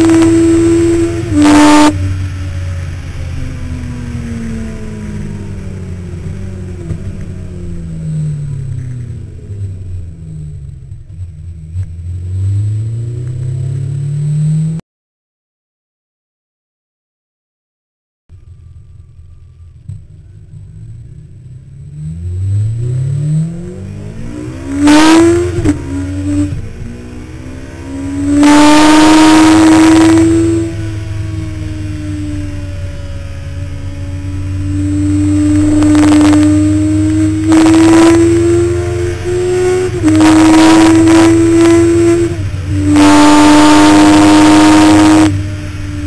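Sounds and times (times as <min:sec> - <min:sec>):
motorcycle engine revving: 0:00.0 - 0:14.8, 0:18.4 - 0:46.0.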